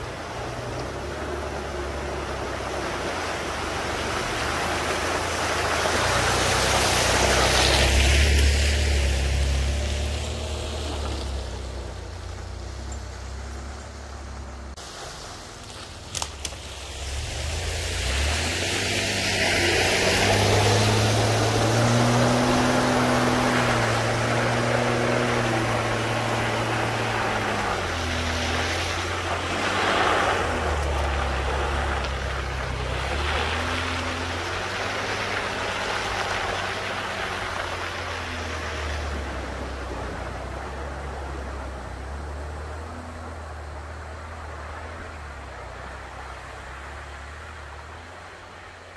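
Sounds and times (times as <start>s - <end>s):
truck engine revving: 0.0s - 14.8s, 16.2s - 48.9s
water and mud spraying: 0.0s - 48.9s.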